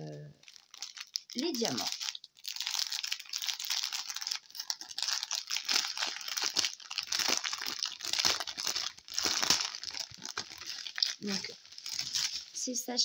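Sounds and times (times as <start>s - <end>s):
plastic sachets crinkling: 0.1s - 13.0s.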